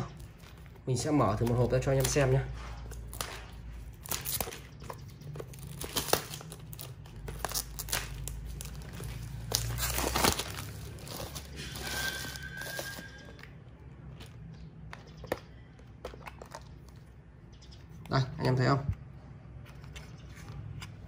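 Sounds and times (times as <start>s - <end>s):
plastic packaging crinkling: 0.0s - 17.2s.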